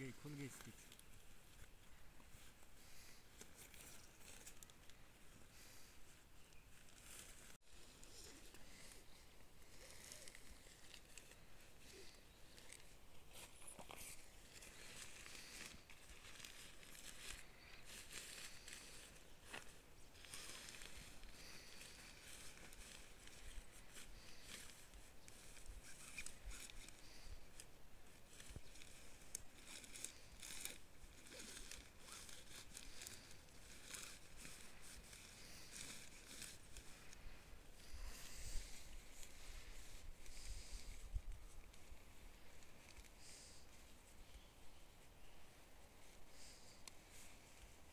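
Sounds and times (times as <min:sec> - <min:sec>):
light footsteps on grass: 0:00.0 - 0:47.9
rustling of tent fabric: 0:00.0 - 0:47.9.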